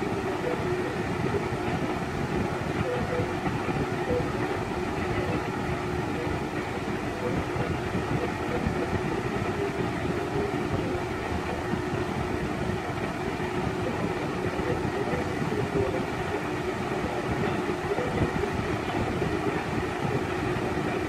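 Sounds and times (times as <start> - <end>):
box fan running: 0.0 - 21.0.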